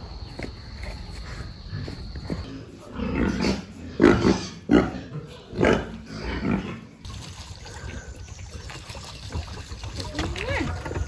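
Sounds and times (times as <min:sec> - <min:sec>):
quiet outdoor background: 0:00.0 - 0:11.0.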